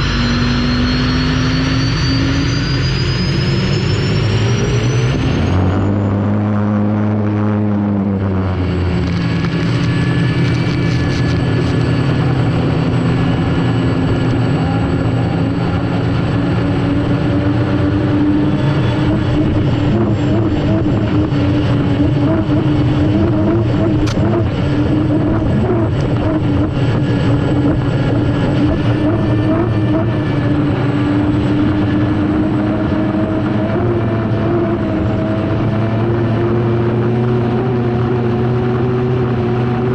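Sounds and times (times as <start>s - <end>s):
turbine engine running hard: 0.0s - 39.9s.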